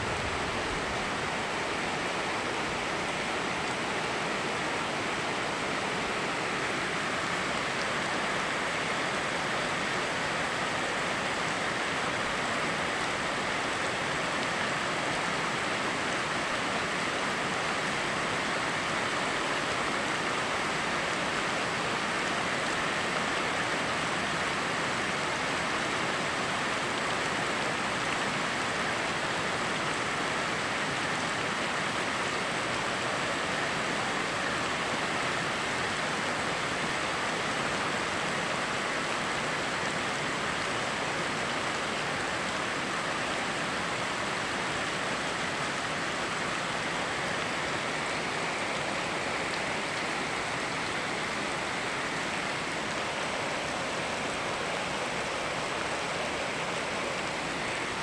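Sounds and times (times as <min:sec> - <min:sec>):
rain falling: 0:00.0 - 0:58.0
river flowing: 0:00.0 - 0:58.0.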